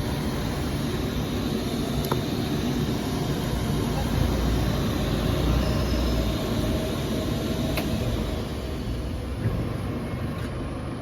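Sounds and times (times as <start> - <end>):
cnc router whirring: 0.0 - 10.1.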